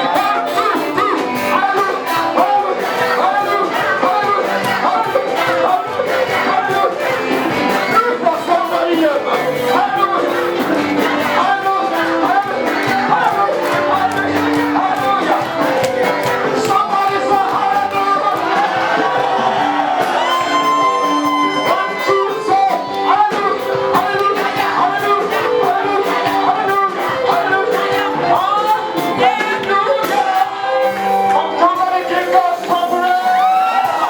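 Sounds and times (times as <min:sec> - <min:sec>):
person singing with sliding notes: 0:00.0 - 0:34.0.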